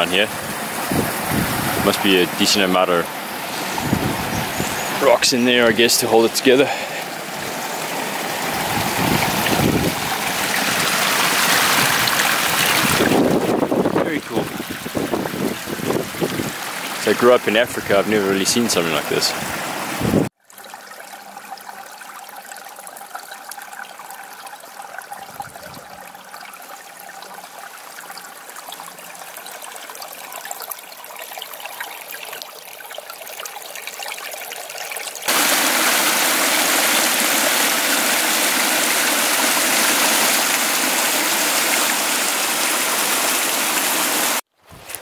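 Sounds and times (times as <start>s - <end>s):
stream trickling over rocks: 0.0s - 45.0s.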